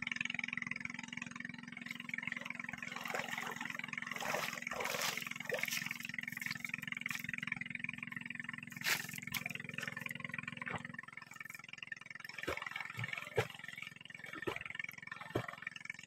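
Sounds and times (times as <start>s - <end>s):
steady low hum: 0.0s - 16.0s
water splashing and sloshing: 1.8s - 16.0s.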